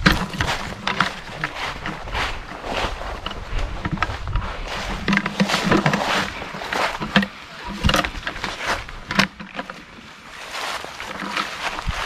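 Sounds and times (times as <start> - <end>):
footsteps on dry leaves: 0.0 - 12.0.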